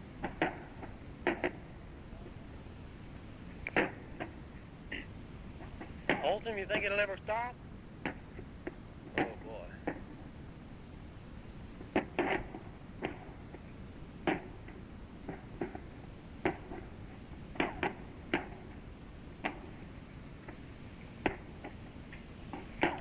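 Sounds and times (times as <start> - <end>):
tape hiss: 0.0 - 23.0.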